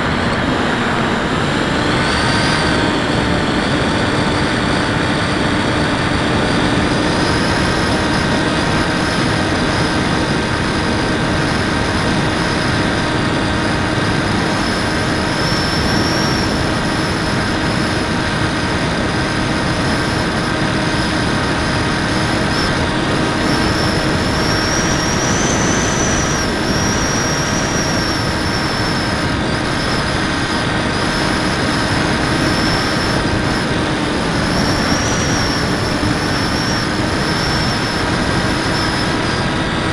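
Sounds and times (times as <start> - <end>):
electric motor propeller whine: 0.0 - 39.9
wind and vibration noise: 0.0 - 39.9.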